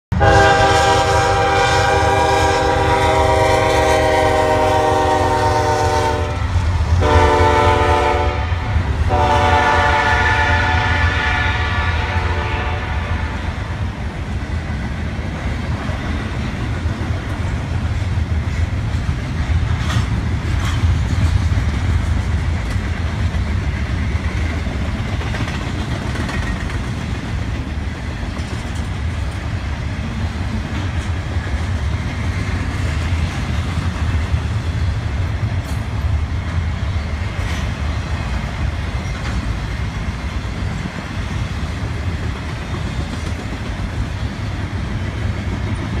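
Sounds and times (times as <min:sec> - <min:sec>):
train rumbling past: 0:00.1 - 0:46.0.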